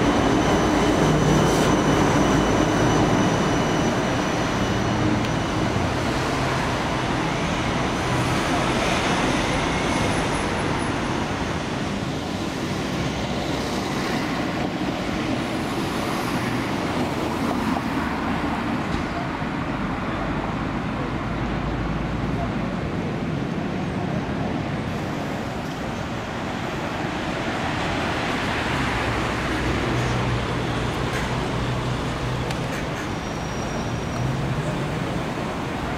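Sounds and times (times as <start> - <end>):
city street traffic: 0.0 - 35.9.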